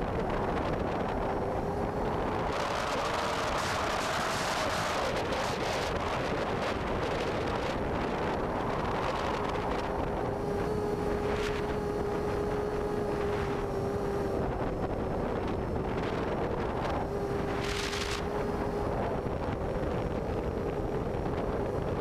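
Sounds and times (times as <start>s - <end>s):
drone motors whining: 0.0s - 22.0s
wind gusts on microphone: 0.0s - 22.0s.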